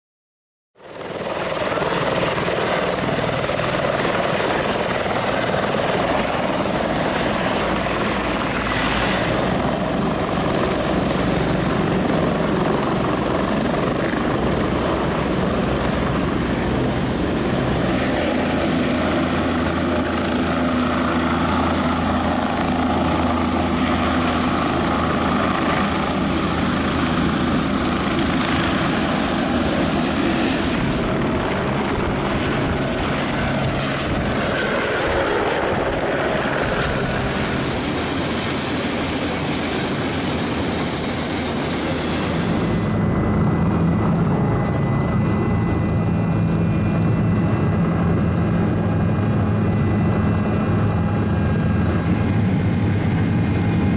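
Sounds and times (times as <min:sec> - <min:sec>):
helicopter flying: 0:00.8 - 0:53.9.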